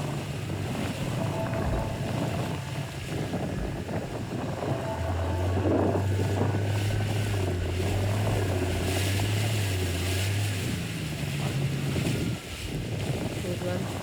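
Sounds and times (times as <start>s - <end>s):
motorboat engine humming: 0.0s - 14.0s
water noise: 0.0s - 14.0s
wind: 0.0s - 14.0s.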